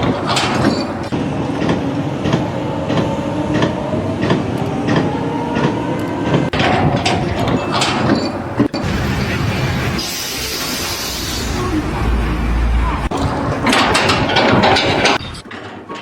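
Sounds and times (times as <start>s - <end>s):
machine rumbling: 0.0s - 16.0s
regular clacking: 0.0s - 16.0s.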